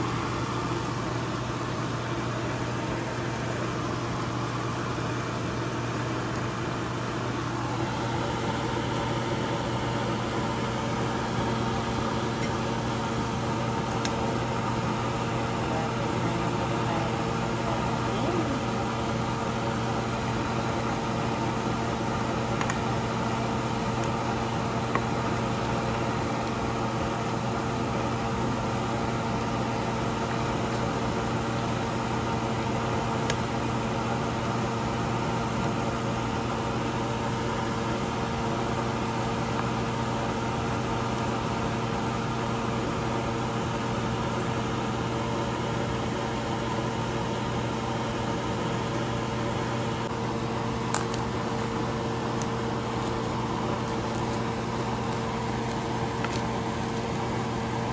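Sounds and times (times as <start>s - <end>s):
kitchen appliance hum: 0.0s - 57.9s.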